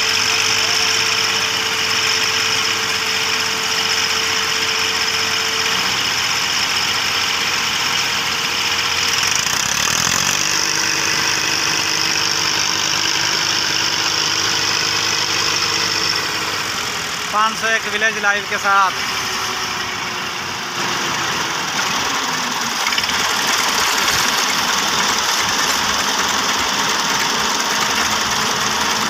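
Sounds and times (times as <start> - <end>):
diesel tractor engine straining: 0.0 - 29.0.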